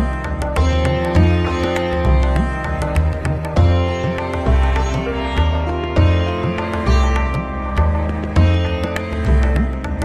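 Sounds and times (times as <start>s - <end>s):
plucked strings: 0.0s - 10.0s.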